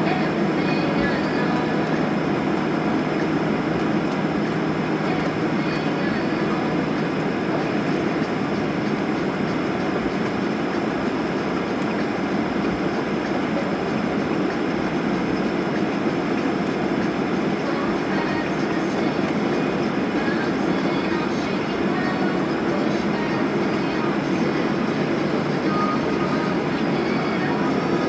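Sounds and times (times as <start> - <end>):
air-conditioning airflow: 0.0 - 28.0
airframe rolling: 0.0 - 28.0
idling jet engines: 0.0 - 28.0.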